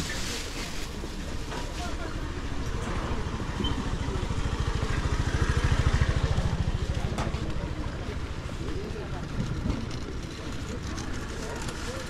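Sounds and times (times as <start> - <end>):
vehicle engine running: 1.0 - 12.0.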